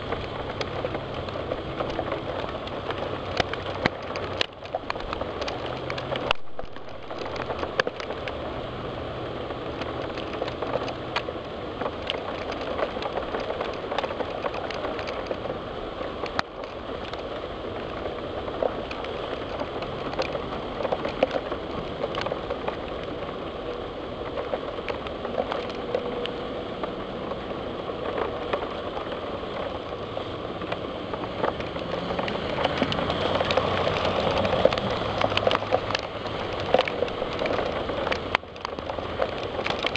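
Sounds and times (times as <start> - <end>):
heavy rain: 0.0 - 39.9
raindrops ticking on window glass: 0.0 - 39.9.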